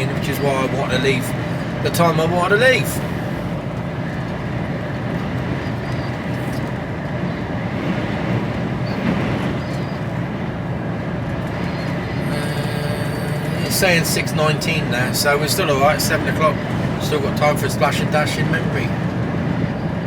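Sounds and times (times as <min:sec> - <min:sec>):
diesel engine low drone: 0:00.0 - 0:20.0
road noise: 0:00.0 - 0:20.0.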